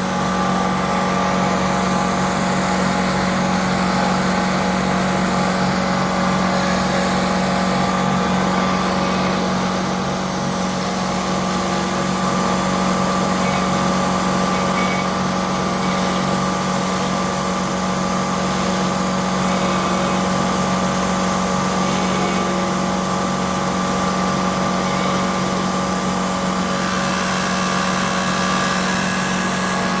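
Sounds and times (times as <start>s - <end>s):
milling machine motor hum: 0.0s - 30.0s.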